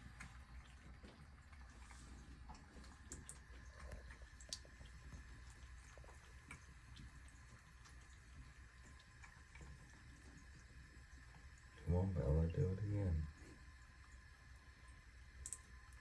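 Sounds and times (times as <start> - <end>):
cat lapping water: 0.0 - 16.0
low steady hum: 0.0 - 16.0.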